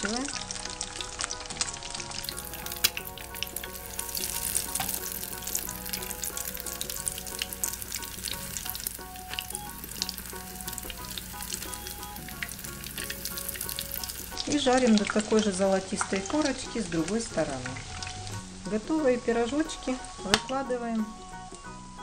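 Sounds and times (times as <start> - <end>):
fritters frying in hot oil: 0.0 - 20.6.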